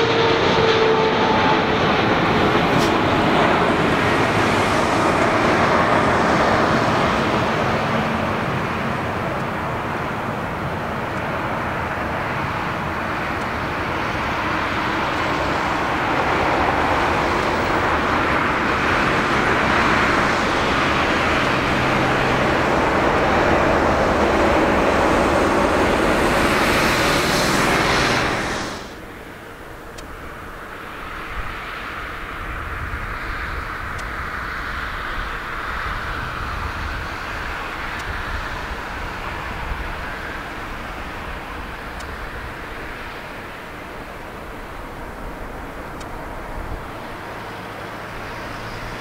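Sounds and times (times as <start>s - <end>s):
jet engines rushing: 0.0s - 49.0s.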